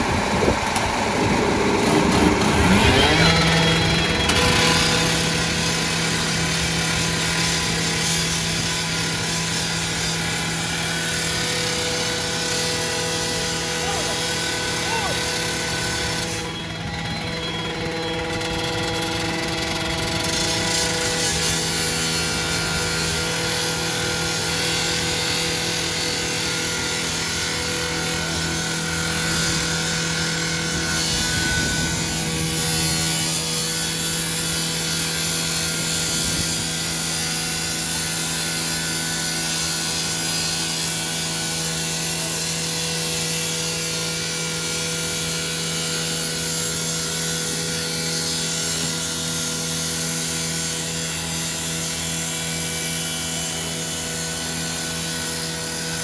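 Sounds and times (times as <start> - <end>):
street noise: 0.0 - 56.0
truck engine droning: 0.0 - 56.0.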